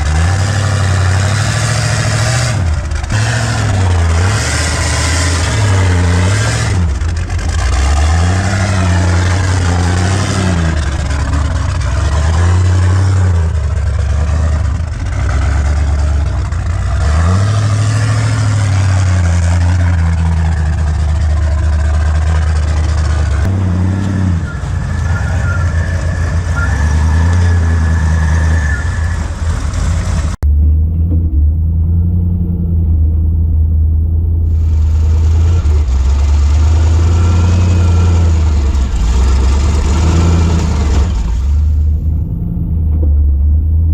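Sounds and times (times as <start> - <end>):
buggy engine revving: 0.0 - 43.9.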